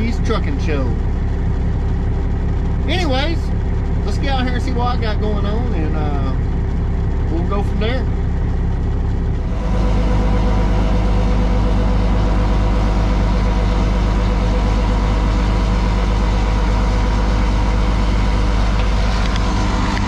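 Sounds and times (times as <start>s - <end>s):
transfer pump running: 0.0s - 20.0s.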